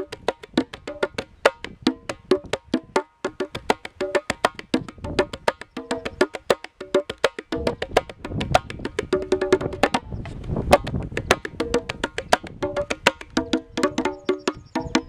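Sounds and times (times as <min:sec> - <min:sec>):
hand percussion clicky strokes: 0:00.0 - 0:15.0.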